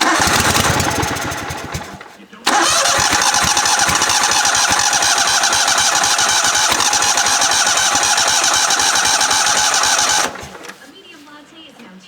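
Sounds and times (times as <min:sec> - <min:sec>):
small engine electric starter cranking: 0:00.0 - 0:10.9.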